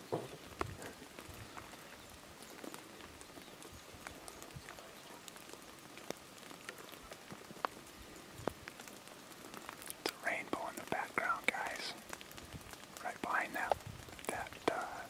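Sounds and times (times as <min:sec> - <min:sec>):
rain hissing: 0:00.0 - 0:15.0
raindrops ticking: 0:00.0 - 0:15.0.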